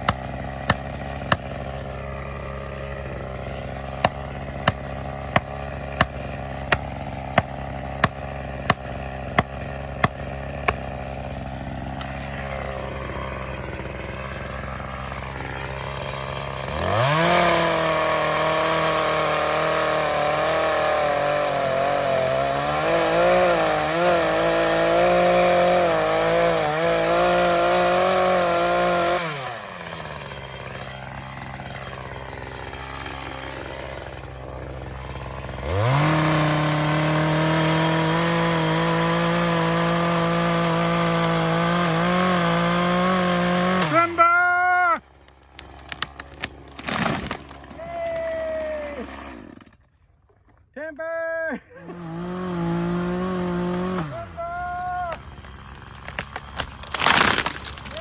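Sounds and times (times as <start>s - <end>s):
chainsaw idling: 0.0s - 50.0s, 51.5s - 58.0s
chainsaw cutting wood: 0.0s - 50.6s, 51.5s - 58.0s.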